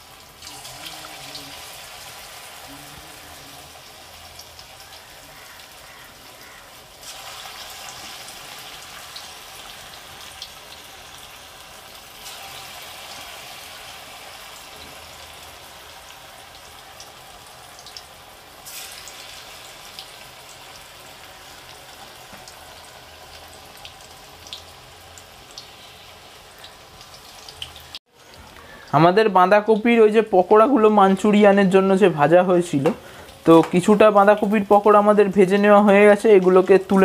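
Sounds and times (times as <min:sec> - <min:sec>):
food deep-frying in oil: 0:00.0 - 0:37.0.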